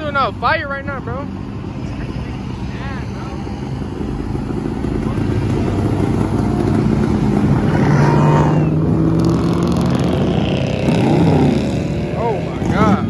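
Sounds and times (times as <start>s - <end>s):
car engine revving: 1.5s - 13.0s.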